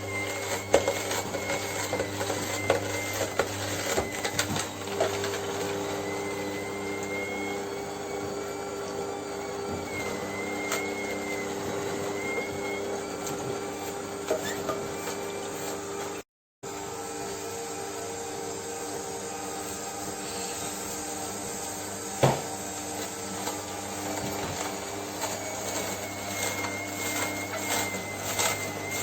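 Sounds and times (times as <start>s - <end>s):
juicer motor humming: 0.0s - 29.0s.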